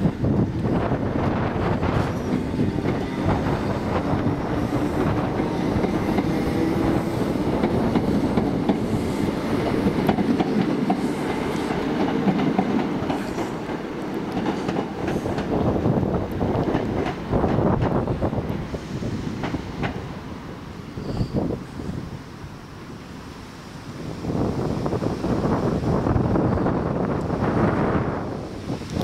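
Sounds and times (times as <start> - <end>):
train running: 0.0 - 29.0.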